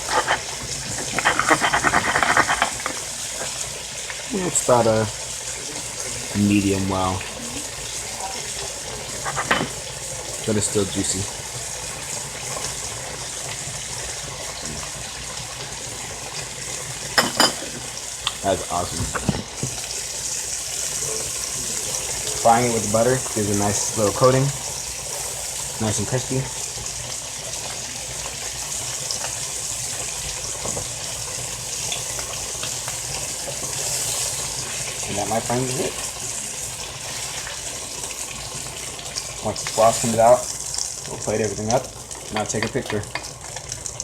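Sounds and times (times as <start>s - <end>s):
steak sizzling in a pan: 0.0s - 44.0s.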